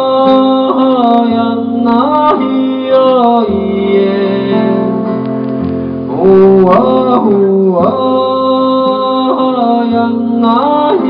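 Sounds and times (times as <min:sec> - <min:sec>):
man singing: 0:00.0 - 0:05.3, 0:06.0 - 0:11.0
acoustic guitar: 0:00.0 - 0:11.0.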